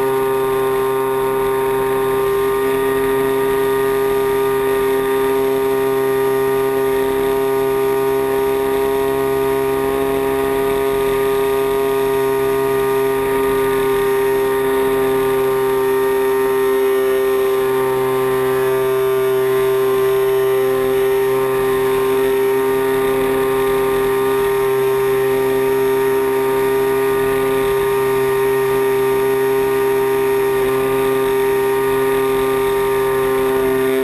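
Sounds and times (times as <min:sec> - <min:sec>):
model airplane gas engine running: 0:00.0 - 0:34.0.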